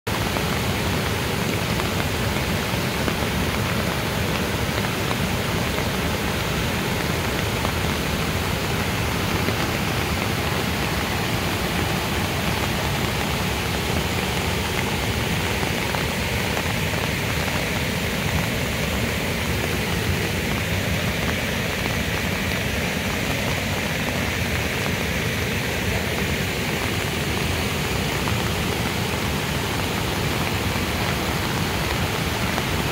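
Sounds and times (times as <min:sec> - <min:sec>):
falling rain: 0:00.1 - 0:32.9
rushing floodwater: 0:00.1 - 0:32.9.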